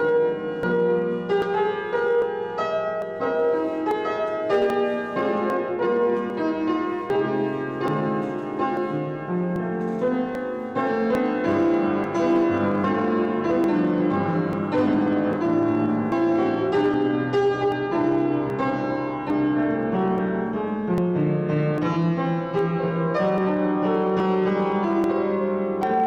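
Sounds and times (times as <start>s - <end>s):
piano piece: 0.0s - 26.0s.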